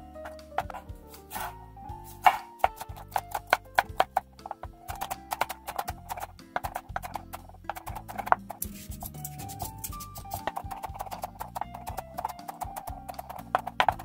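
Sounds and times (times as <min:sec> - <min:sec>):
background music: 0:00.0 - 0:14.0
knife chopping on wooden board: 0:00.3 - 0:14.0.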